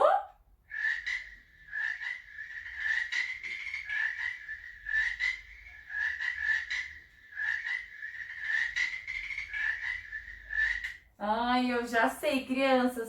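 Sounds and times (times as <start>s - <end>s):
frog rattling croaks: 0.6s - 11.1s.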